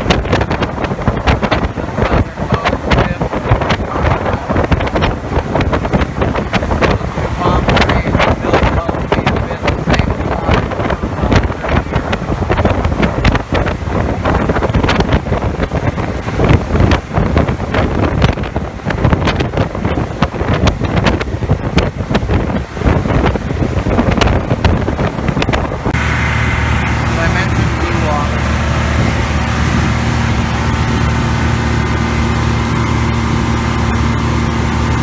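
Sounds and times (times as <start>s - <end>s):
motorboat engine: 0.0s - 35.0s
wind buffeting microphone: 0.0s - 35.0s.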